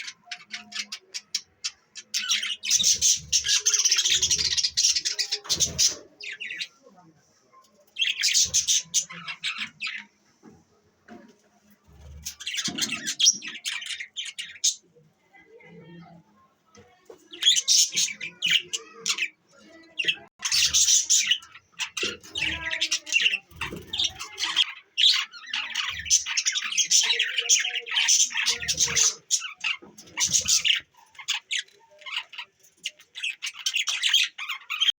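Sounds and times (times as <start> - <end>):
budgerigars chattering and squawking: 0.0 - 6.8, 8.0 - 10.1, 11.9 - 14.9, 17.3 - 34.9.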